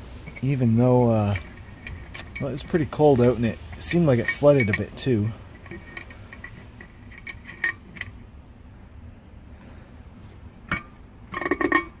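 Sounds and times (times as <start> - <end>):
metallic clicks of engine parts: 0.2 - 8.3, 10.4 - 12.0.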